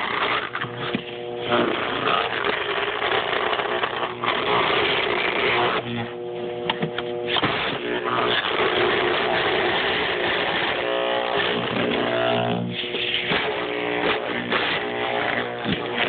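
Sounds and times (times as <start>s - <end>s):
degausser electrical buzz: 0.0s - 16.0s.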